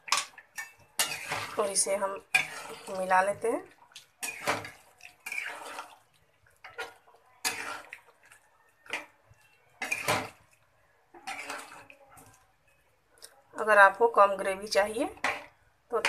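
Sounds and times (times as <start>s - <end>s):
spoon stirring thick gravy: 0.0s - 13.5s, 14.8s - 16.0s
spoon scraping metal pan: 0.1s - 3.5s, 4.1s - 12.8s, 14.8s - 16.0s.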